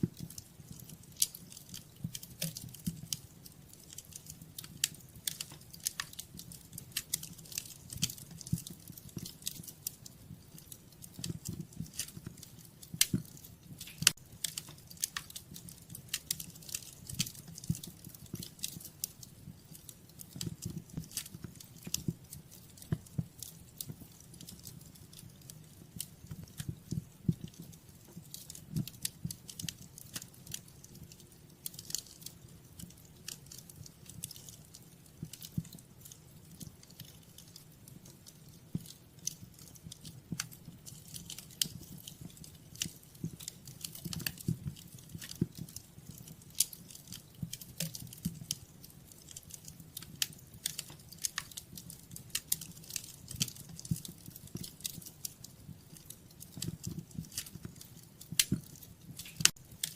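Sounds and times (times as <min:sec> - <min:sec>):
fire crackling and popping: 0:00.0 - 0:59.9
soft low rumble of fire: 0:00.0 - 0:59.9.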